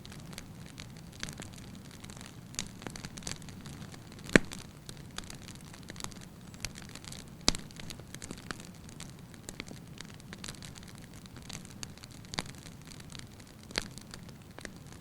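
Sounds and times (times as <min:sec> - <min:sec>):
fire crackling: 0:00.0 - 0:15.0
loud pops from fire: 0:00.0 - 0:15.0.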